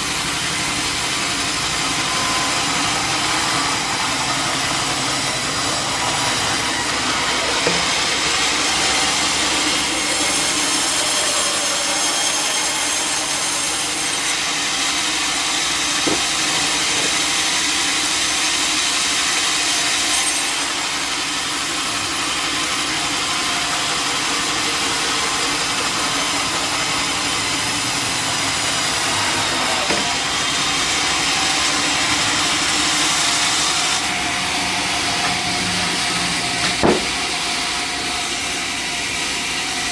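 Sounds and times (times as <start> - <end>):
saw blade rasping through log: 0.0 - 39.9.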